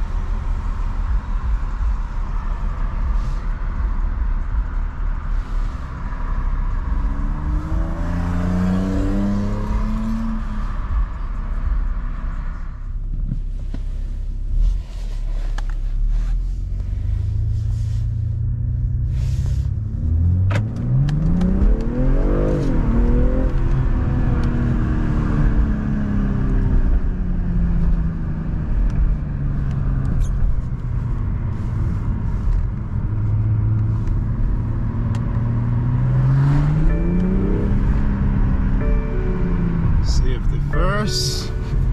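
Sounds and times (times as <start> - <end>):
car engine revving: 0.0 - 15.6, 16.2 - 41.9
road rumble: 0.0 - 41.9.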